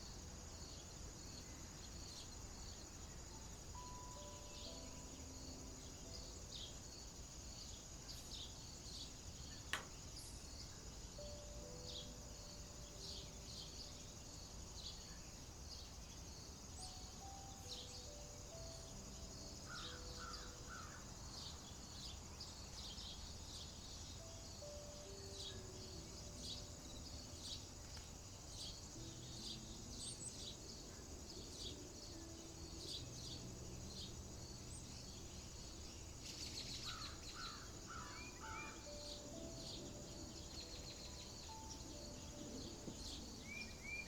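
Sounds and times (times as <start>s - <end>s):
insect chorus: 0.0s - 44.0s
soft held music notes: 0.0s - 44.0s.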